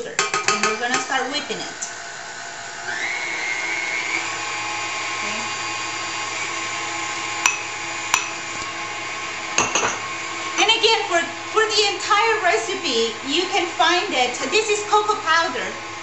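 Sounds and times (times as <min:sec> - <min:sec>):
stand mixer motor whine: 0:01.2 - 0:16.0.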